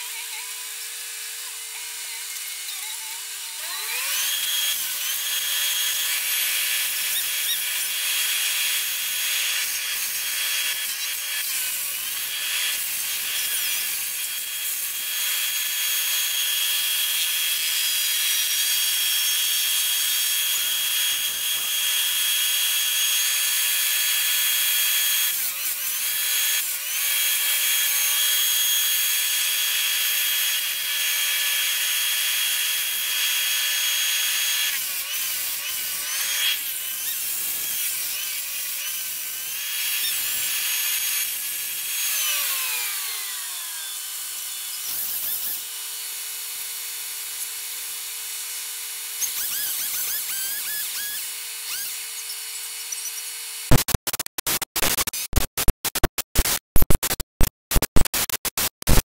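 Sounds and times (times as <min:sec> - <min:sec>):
chainsaw cutting tree: 0:03.2 - 0:53.8.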